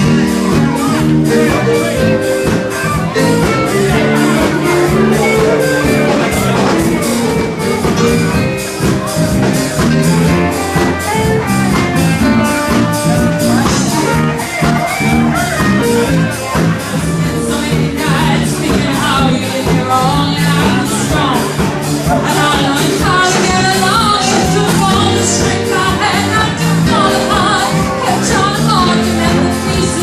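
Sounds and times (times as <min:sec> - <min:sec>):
live band dance music: 0:00.0 - 0:30.0
person singing: 0:00.0 - 0:30.0.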